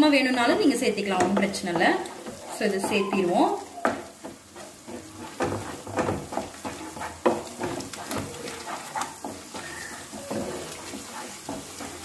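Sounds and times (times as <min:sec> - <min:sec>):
light sizzle of frying paste: 0:00.0 - 0:12.0
wooden spatula scraping a pan: 0:00.0 - 0:12.0.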